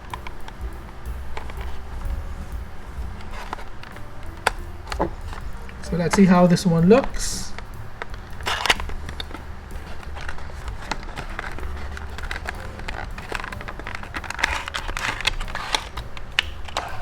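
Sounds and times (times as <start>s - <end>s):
low steady hum: 0.0s - 17.0s
plastic and cardboard crinkling: 0.0s - 17.0s.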